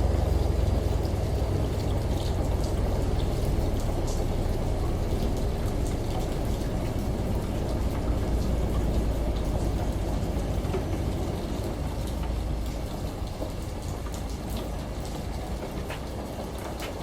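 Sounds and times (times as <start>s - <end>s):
rain drops pattering: 0.0s - 17.0s.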